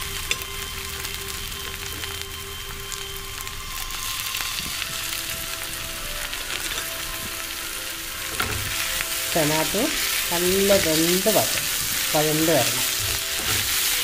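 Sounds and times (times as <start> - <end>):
food sizzling in oil: 0.0 - 14.0.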